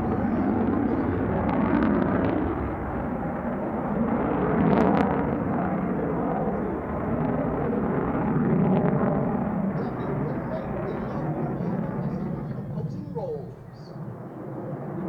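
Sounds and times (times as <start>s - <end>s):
jet engine rumbling: 0.0s - 15.0s.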